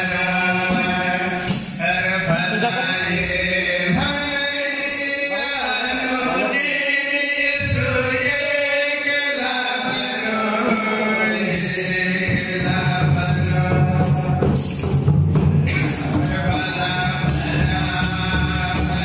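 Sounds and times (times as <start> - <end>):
man singing a hymn: 0.0 - 14.7, 15.5 - 19.0.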